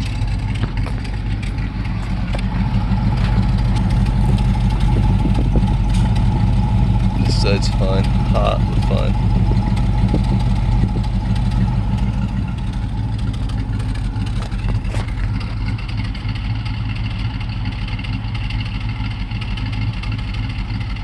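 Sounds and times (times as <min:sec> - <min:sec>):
car engine idling with misfire: 0:00.0 - 0:21.0.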